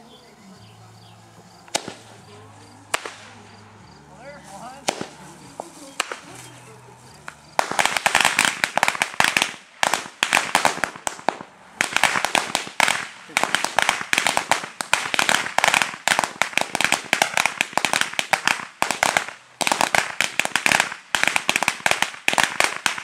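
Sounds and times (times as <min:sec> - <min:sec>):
string of firecrackers popping: 0:01.6 - 0:03.7, 0:04.4 - 0:23.0
firecracker bangs: 0:01.6 - 0:23.0.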